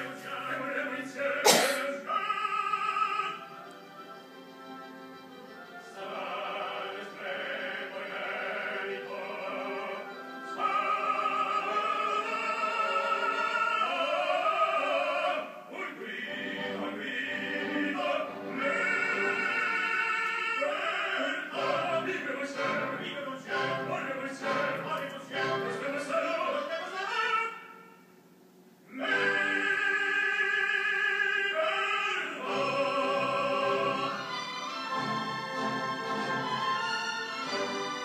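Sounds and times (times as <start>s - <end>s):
opera singer with classical accompaniment: 0.0s - 27.9s, 28.8s - 38.0s.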